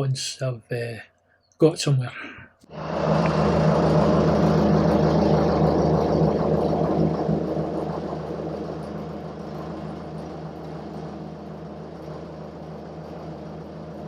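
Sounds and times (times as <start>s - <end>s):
machine motor humming: 2.6s - 14.0s.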